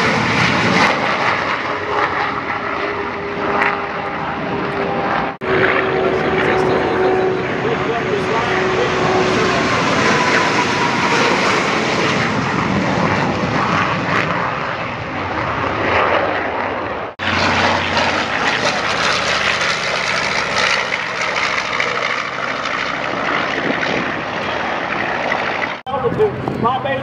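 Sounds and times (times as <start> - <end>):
bomber engines droning overhead: 0.0 - 27.0
propeller aircraft engines running: 0.0 - 27.0.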